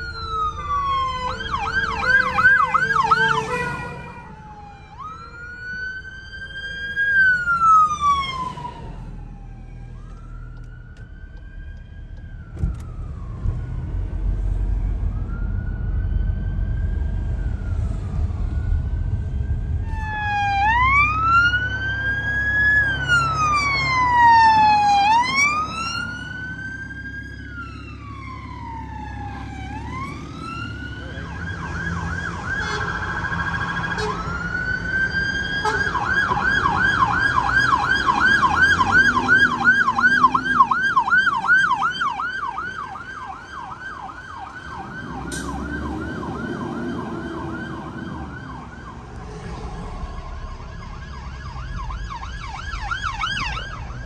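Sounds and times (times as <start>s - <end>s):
emergency vehicle siren wailing: 0.0s - 54.0s
emergency vehicle siren yelping: 0.0s - 54.0s
low traffic noise: 0.0s - 54.0s.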